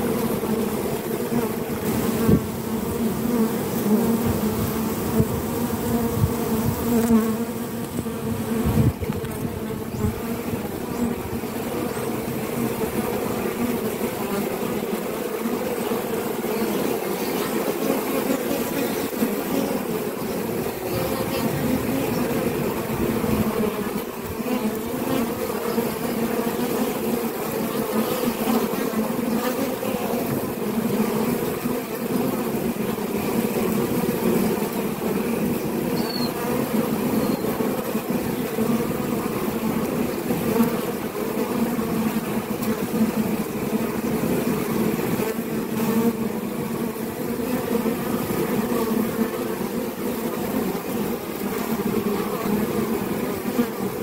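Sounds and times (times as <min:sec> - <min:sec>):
honey bees buzzing: 0:00.0 - 0:54.0.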